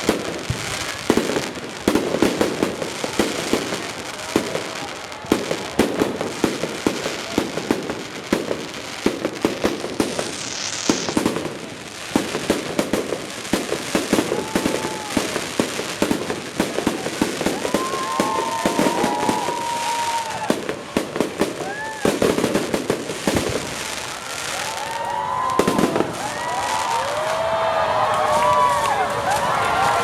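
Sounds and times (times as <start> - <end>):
fireworks bangs and crackling: 0.0 - 30.0
whistling fireworks: 0.0 - 30.0.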